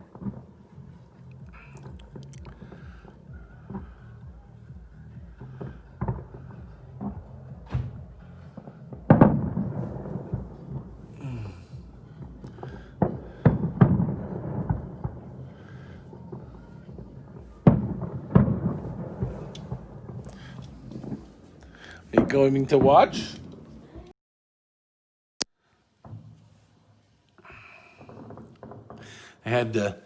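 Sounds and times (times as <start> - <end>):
fireworks bangs: 0.0 - 24.0, 27.5 - 30.0
low rolling rumble: 0.0 - 24.1.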